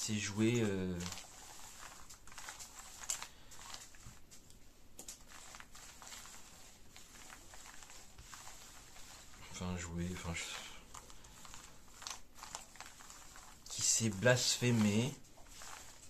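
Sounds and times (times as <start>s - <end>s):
cards rustling on cloth: 0.0s - 16.0s.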